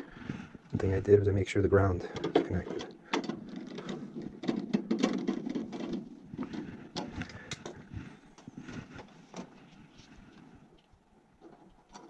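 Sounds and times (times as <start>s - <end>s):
hands handling wires: 2.1s - 12.0s.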